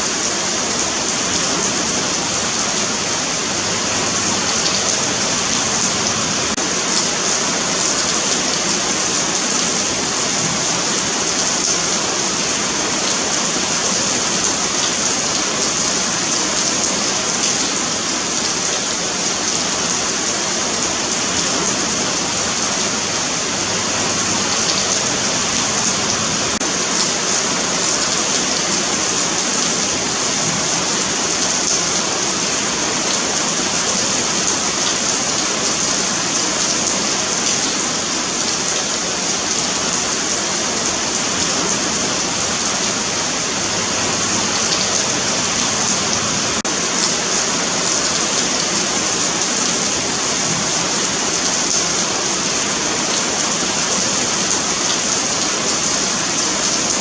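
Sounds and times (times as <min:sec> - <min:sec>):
rain on pavement: 0:00.0 - 0:57.0.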